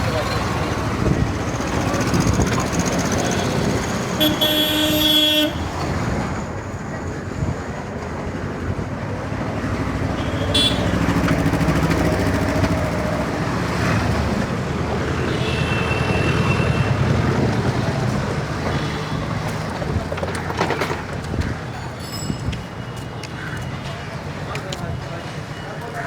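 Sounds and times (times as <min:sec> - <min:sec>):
cars and motorbikes passing: 0:00.0 - 0:21.8.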